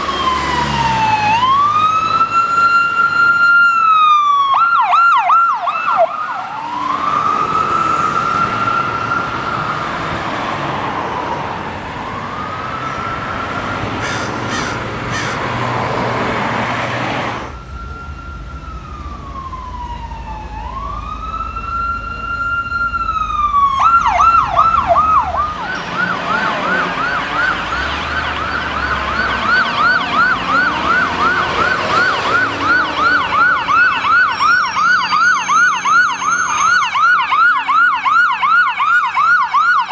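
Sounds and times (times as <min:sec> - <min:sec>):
emergency vehicle sirens: 0:00.0 - 0:39.9
heavy vehicle rumbling past: 0:06.2 - 0:38.2.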